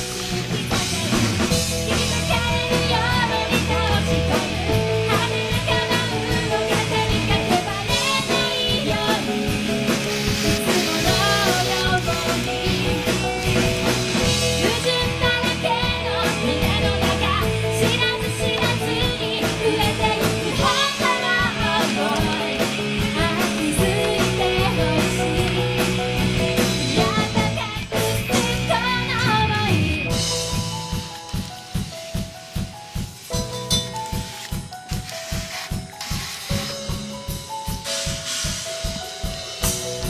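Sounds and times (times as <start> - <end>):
rock song with singer: 0.0 - 33.0
drum kit beat: 0.0 - 40.0
guitar: 0.0 - 40.0.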